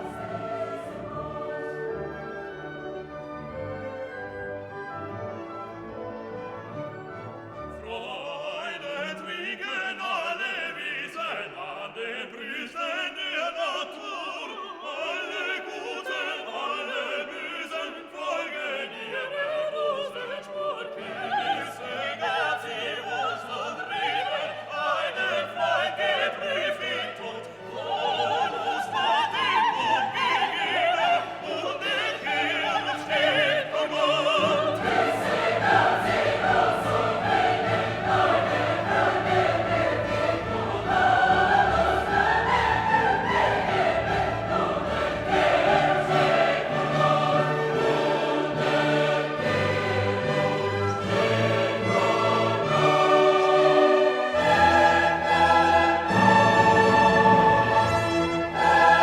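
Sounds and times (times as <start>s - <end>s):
operatic singing: 0.0s - 4.9s, 7.5s - 59.0s
orchestra: 0.0s - 59.0s.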